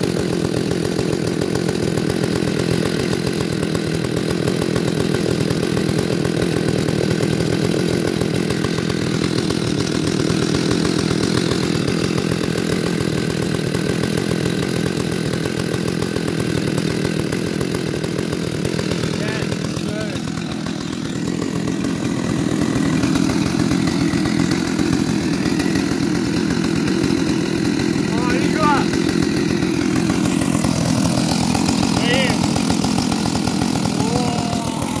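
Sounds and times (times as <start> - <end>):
chainsaw engine running: 0.0 - 35.0.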